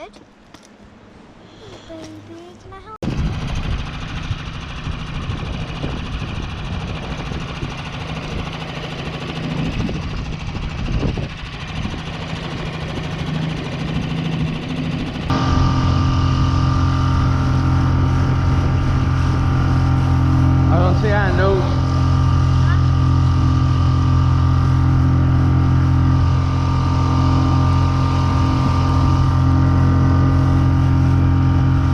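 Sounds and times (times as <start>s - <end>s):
outboard motor running: 3.0s - 31.9s.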